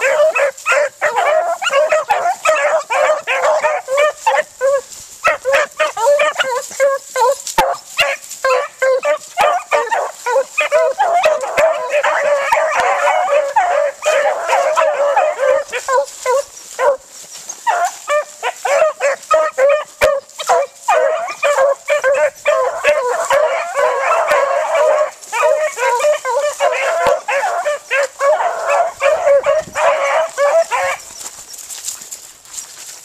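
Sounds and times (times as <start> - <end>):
dogs barking and yipping: 0.0 - 32.1.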